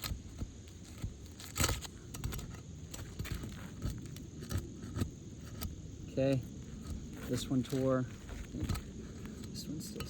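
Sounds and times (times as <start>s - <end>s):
roof shingle scraping and crackling: 0.0s - 10.0s.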